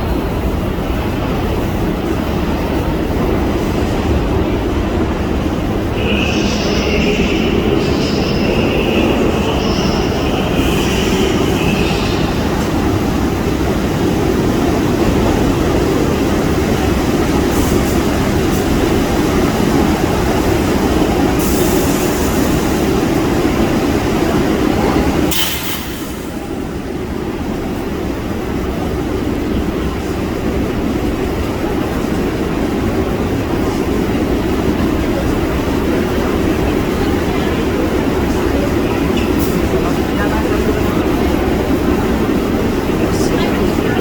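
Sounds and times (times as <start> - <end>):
subway train rumbling: 0.0 - 44.0.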